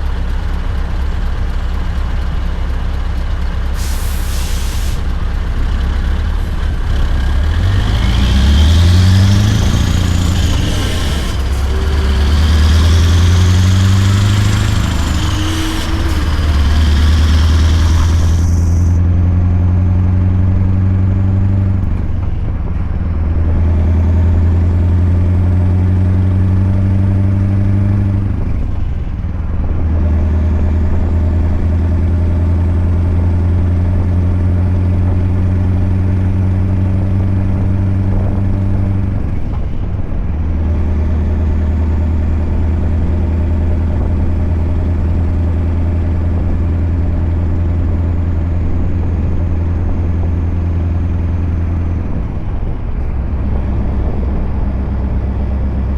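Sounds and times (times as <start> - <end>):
truck engine pulling under load: 3.3 - 55.9.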